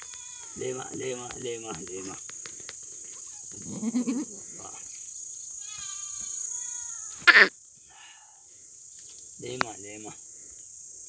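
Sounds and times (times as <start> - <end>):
high insect buzz: 0.0 - 11.0.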